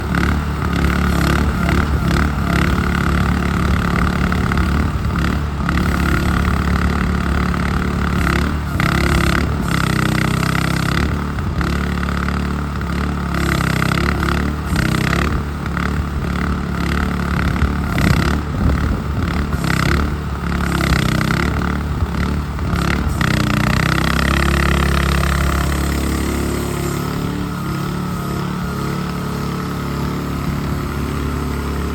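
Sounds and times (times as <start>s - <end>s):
excavator engine running hard: 0.0s - 31.9s.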